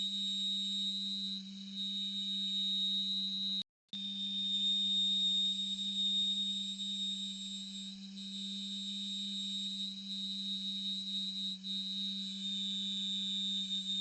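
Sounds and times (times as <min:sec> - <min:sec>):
person whistling steady tone: 0:00.0 - 0:14.0.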